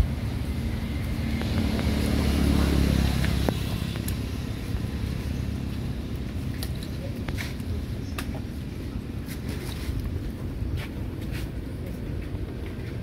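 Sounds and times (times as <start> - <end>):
vehicle engine hum passing: 0.0 - 13.0.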